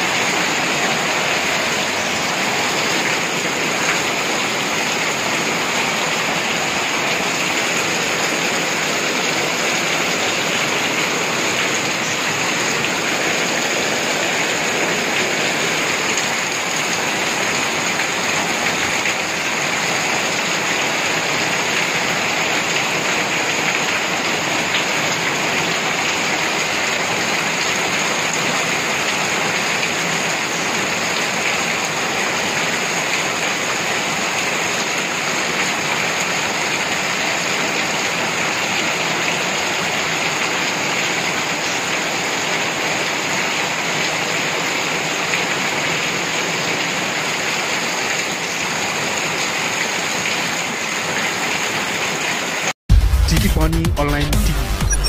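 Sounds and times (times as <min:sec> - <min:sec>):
heavy rain splashing on pavement: 0:00.0 - 0:52.8.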